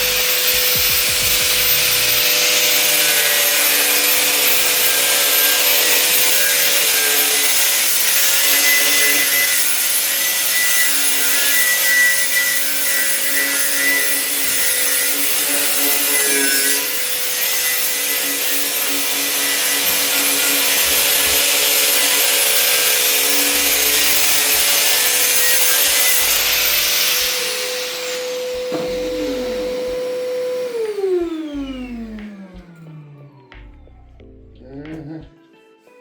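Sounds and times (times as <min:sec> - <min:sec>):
power tool whining: 0:00.0 - 0:34.3.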